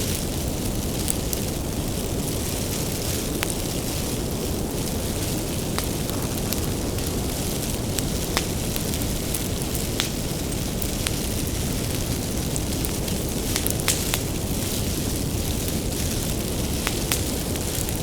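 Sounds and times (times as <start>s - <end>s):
firewood crackling and popping: 0.0s - 18.0s
wood fire rumbling: 0.0s - 18.0s.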